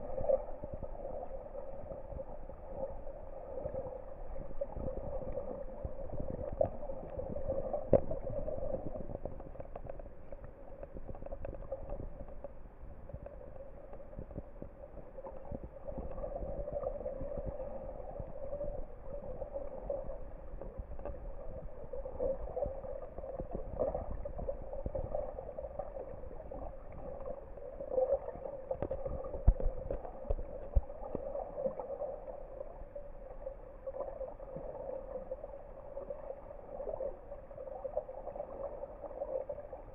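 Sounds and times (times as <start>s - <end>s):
muffled underwater water noise: 0.0s - 39.9s.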